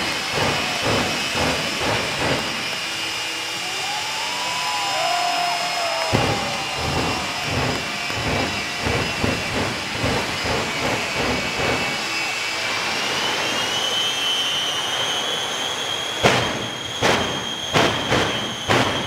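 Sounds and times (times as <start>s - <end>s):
jet engine turbine whine: 0.0s - 19.0s.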